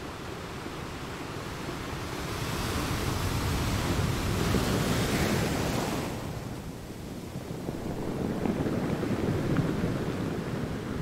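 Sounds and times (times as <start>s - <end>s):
blizzard wind rumbling on microphone: 0.0s - 11.0s.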